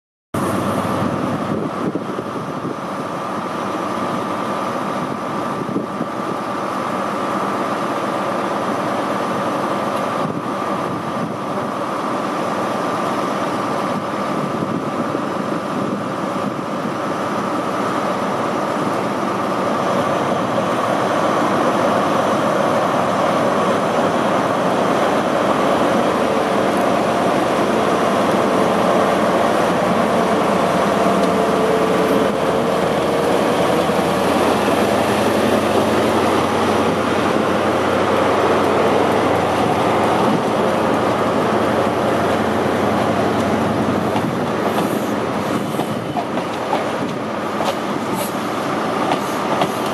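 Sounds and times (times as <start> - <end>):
diesel engine whining: 0.4 - 46.3.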